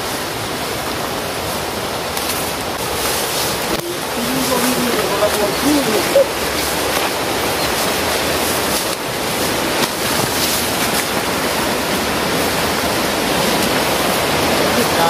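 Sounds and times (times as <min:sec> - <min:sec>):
fast-flowing river rushing: 0:00.0 - 0:15.0.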